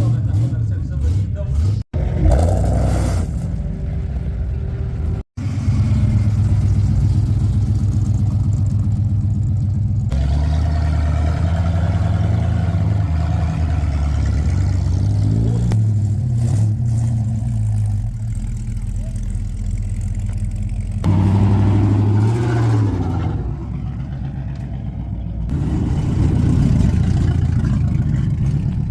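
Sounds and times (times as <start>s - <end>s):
car engines rumbling and revving: 0.0s - 28.9s.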